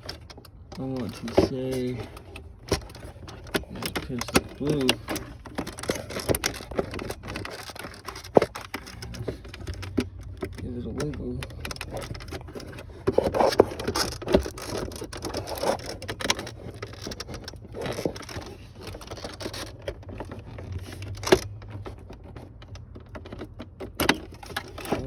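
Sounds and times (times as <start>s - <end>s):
plastic parts rattling and scraping: 0.0s - 25.0s.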